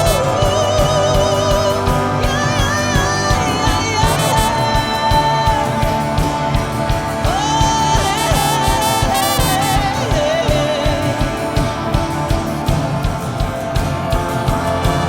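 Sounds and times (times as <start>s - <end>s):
brass-like tones: 0.0s - 15.0s
live worship band: 0.0s - 15.0s
person singing long notes: 0.0s - 15.0s
steady drum beat: 0.0s - 15.0s.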